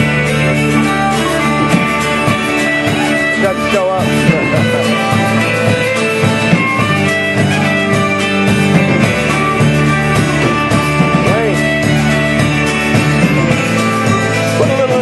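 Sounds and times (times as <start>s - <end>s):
electric bass: 0.0s - 15.0s
fiddle melody: 0.0s - 15.0s
strummed guitars: 0.0s - 15.0s.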